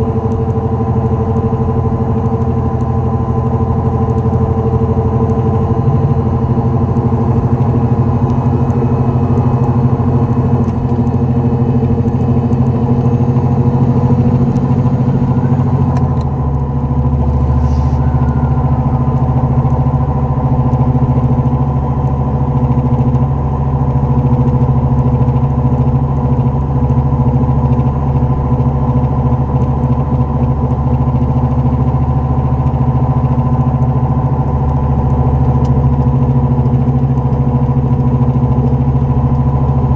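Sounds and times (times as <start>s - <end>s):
wheel bearing drone: 0.0s - 39.9s.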